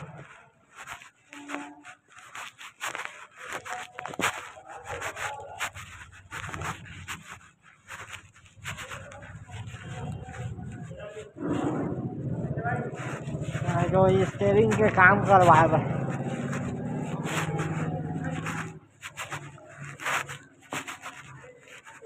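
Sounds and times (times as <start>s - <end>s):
phone microphone rubbing and knocking: 0.0s - 22.0s.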